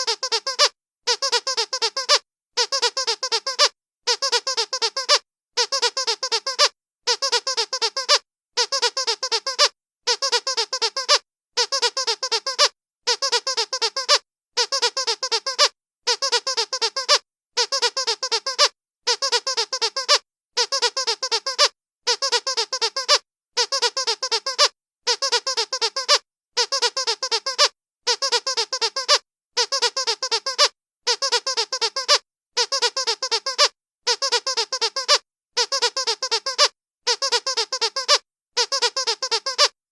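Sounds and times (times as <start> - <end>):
squeaky dog toy squeaking: 0.0 - 39.8.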